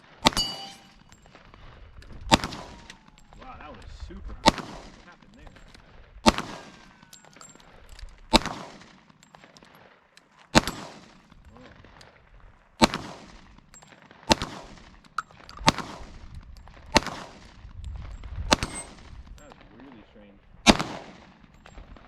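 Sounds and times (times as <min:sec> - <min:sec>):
pistol shots with echo: 0:00.0 - 0:01.6, 0:02.2 - 0:09.6, 0:10.5 - 0:12.0, 0:12.8 - 0:17.8, 0:18.4 - 0:22.0.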